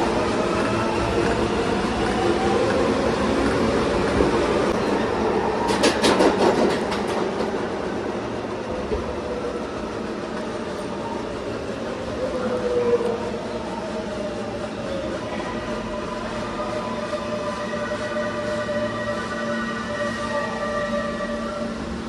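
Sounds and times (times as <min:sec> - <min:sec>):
subway car running on track: 0:00.0 - 0:22.0.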